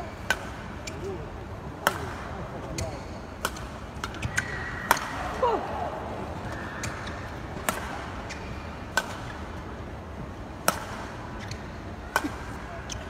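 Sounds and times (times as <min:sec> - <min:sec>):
arena background noise: 0:00.0 - 0:13.0
rackets hitting shuttlecock: 0:00.2 - 0:01.2, 0:01.8 - 0:05.5, 0:06.3 - 0:13.0.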